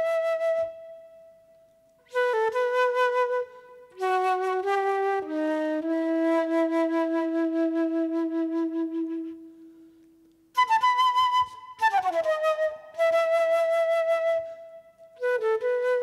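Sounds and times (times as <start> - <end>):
flute playing with vibrato: 0.0 - 1.5, 2.1 - 9.8, 10.5 - 16.0.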